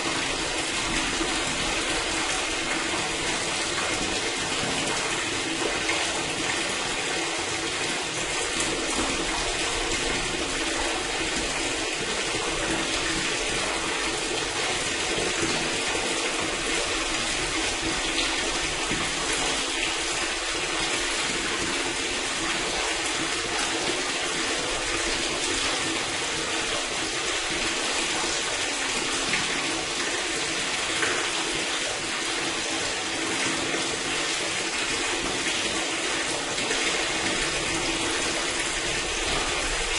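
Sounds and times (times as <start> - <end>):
water pouring through drain: 0.0 - 39.9.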